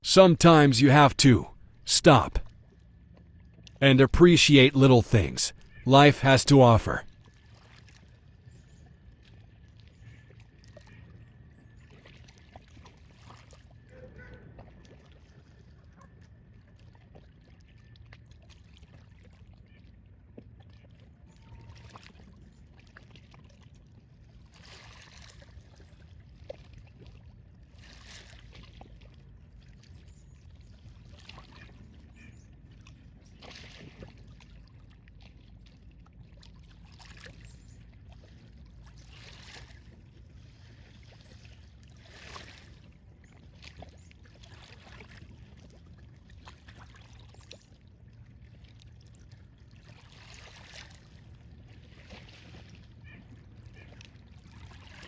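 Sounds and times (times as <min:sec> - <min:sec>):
water sloshing and lapping: 0:07.1 - 0:55.0.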